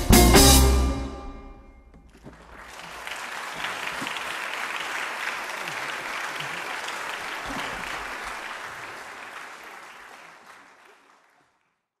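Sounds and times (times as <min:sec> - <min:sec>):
audience applauding: 0:02.0 - 0:12.0.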